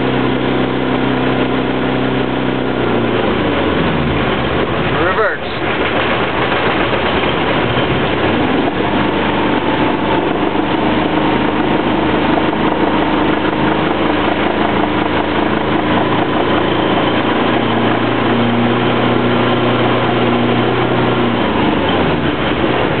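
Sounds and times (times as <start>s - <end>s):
boat engine running: 0.0s - 23.0s
whine: 0.0s - 23.0s.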